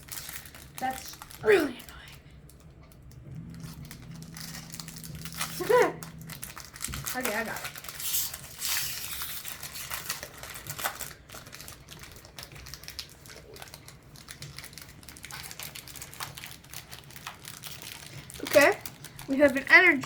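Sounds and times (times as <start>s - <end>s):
foil wrapper crinkling: 0.0s - 2.6s, 3.4s - 20.0s.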